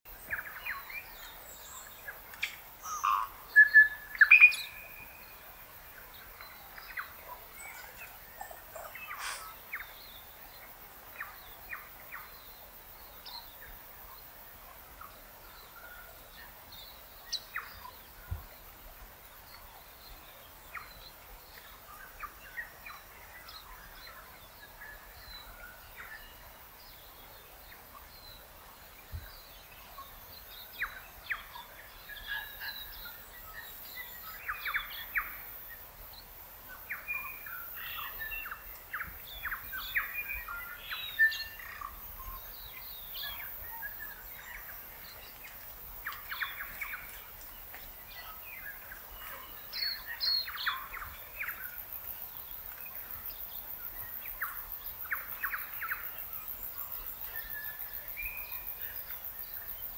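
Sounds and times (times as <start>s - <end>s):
faint steady hiss: 0.1s - 59.9s
wild birds calling and chirping: 0.1s - 59.9s.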